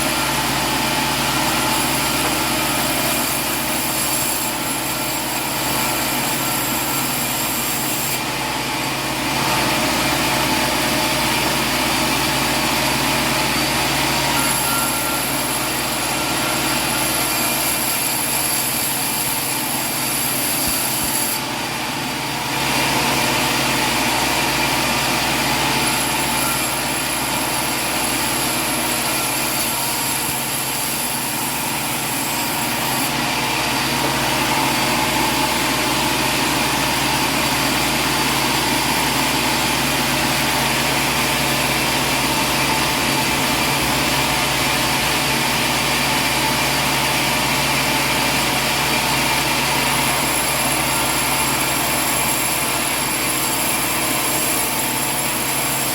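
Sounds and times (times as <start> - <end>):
high machine whine: 0.0 - 55.9
sawmill machinery running: 0.0 - 55.9.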